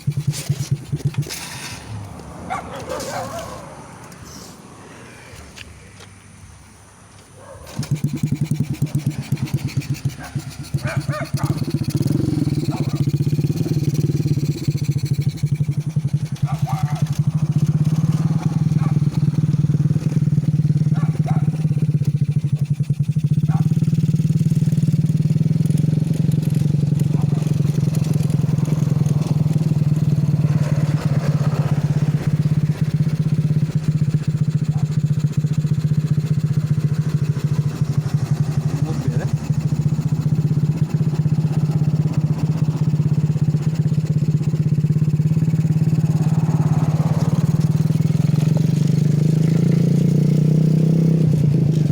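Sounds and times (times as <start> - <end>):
go-kart engine running: 0.0 - 4.4, 7.6 - 51.9.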